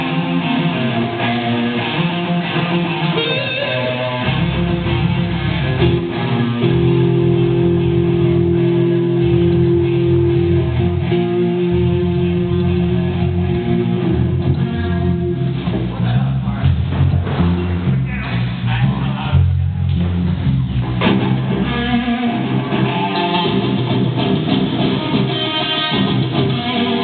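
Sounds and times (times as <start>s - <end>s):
bass guitar: 0.0s - 27.0s
electric guitar: 0.0s - 27.0s.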